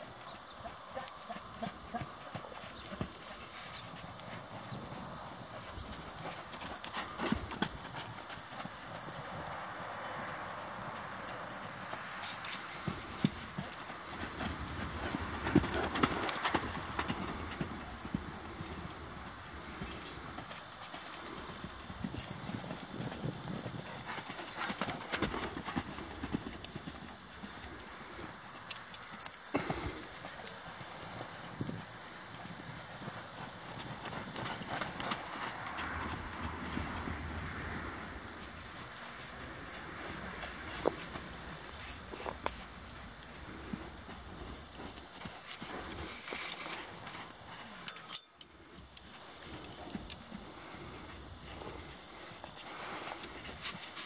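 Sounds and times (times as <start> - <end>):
horse hoofbeats on dirt: 0.0 - 47.9, 48.6 - 54.0.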